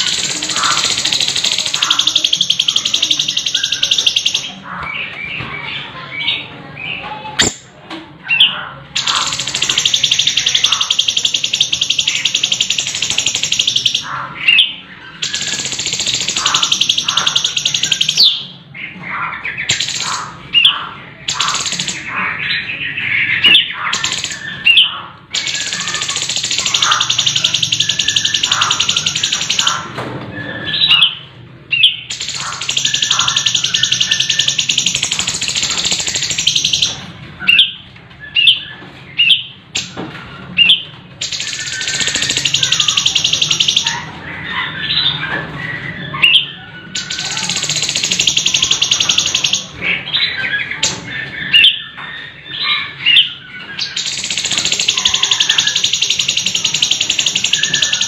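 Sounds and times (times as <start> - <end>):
bird singing rolling trills: 0.0 - 58.0.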